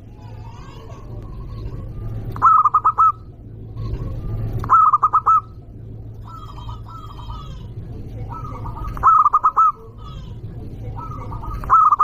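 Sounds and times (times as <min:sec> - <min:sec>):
dove cooing: 0:00.0 - 0:12.0
small birds chirping: 0:00.0 - 0:12.0.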